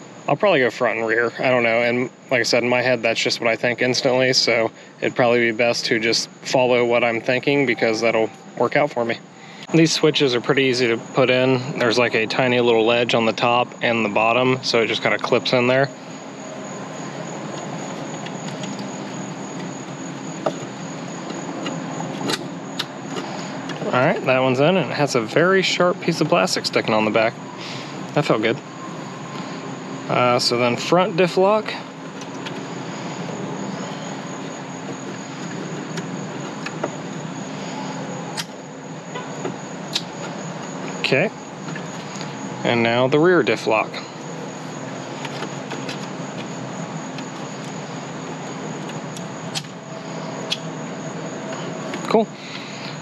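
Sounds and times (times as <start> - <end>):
steady background hiss: 0.0 - 53.0
thin high whine: 0.0 - 53.0.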